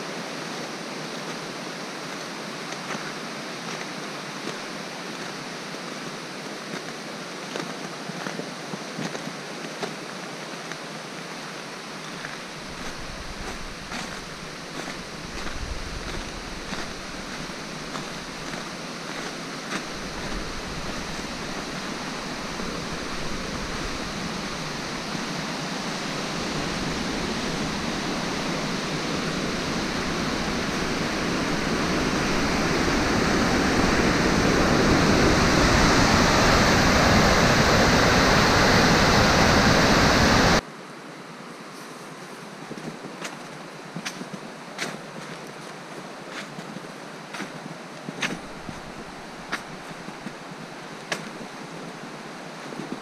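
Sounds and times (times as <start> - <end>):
river rapids rushing: 0.0 - 40.6, 45.3 - 53.0.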